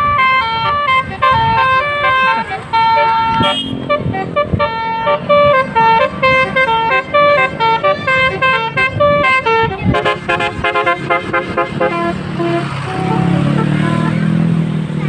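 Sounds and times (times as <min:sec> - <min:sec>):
bus musical horn melody: 0:00.0 - 0:14.5.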